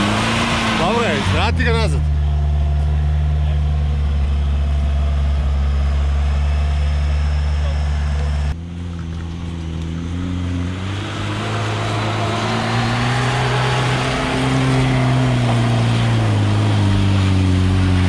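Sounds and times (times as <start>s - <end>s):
car engine pulling under load: 0.0s - 18.0s.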